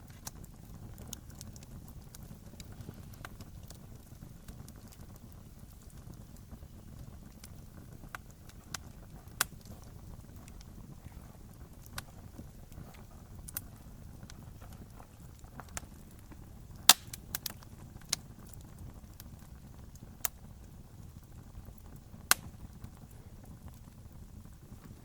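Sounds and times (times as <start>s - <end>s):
campfire rumbling: 0.0s - 25.0s
fire crackling and popping: 0.0s - 25.0s.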